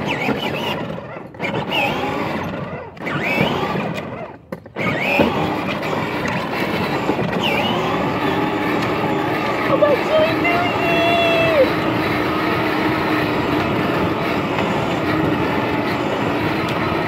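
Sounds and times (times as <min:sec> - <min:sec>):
plastic wheels rumbling on asphalt: 0:00.0 - 0:17.0
toy car electric motor: 0:00.0 - 0:17.0.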